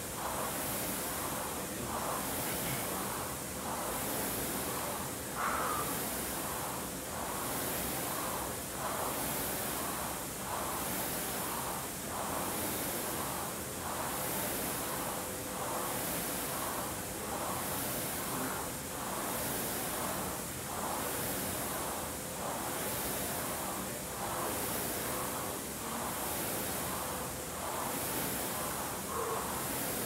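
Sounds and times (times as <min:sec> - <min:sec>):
rowing machine fan whooshing: 0:00.0 - 0:30.0.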